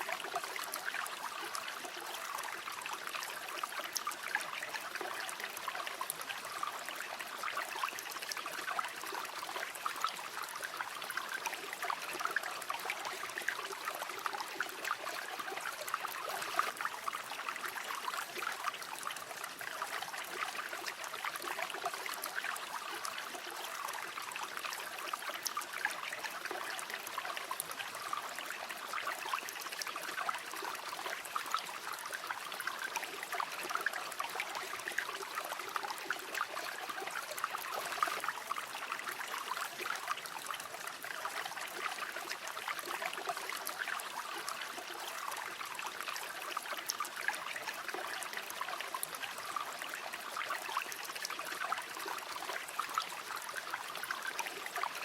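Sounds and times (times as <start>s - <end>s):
shallow river babbling over stones: 0.0s - 55.0s.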